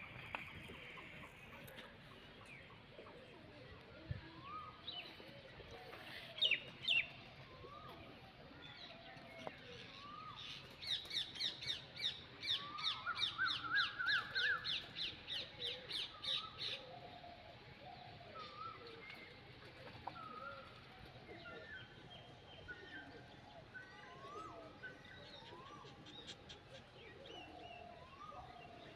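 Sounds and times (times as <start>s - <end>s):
birds calling and chirping: 0.0s - 28.9s.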